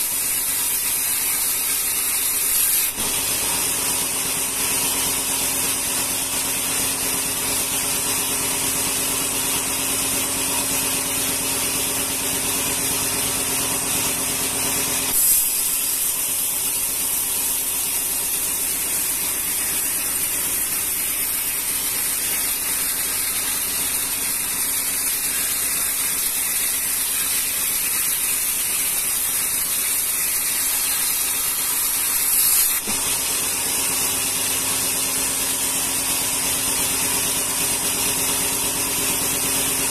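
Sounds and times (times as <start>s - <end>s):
band saw blade hissing: 0.0s - 8.3s, 8.9s - 37.1s.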